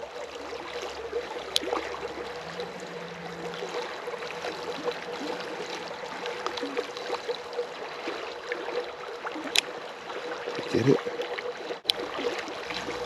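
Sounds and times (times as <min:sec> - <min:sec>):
creek water burbling: 0:00.0 - 0:13.0.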